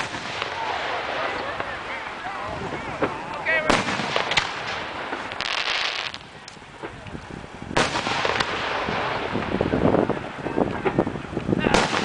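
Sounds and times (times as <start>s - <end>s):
firework bangs: 0.0s - 12.0s
hissing crackle: 0.0s - 12.0s.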